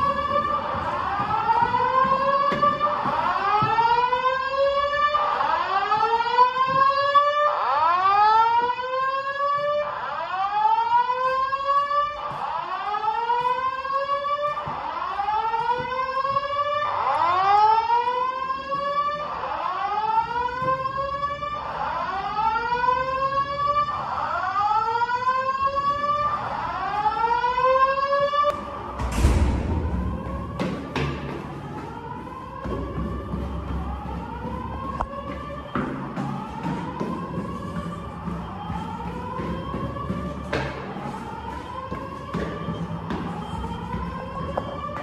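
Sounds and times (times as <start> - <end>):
fire alarm whoop tone: 0.0 - 31.2, 31.9 - 45.0.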